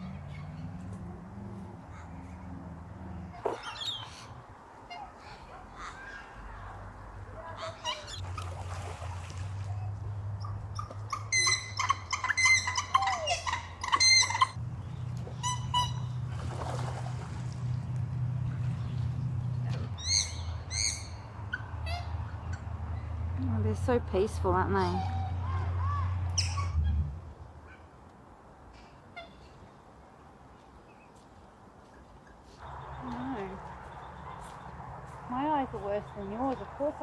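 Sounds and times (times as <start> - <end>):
wild birds calling: 0.0 - 17.2, 18.4 - 23.4, 24.6 - 28.0, 32.6 - 37.0.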